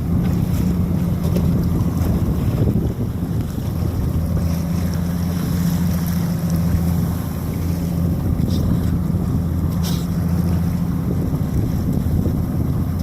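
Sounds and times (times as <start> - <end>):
boat engine humming: 0.0 - 13.0
wind on microphone: 0.0 - 13.0.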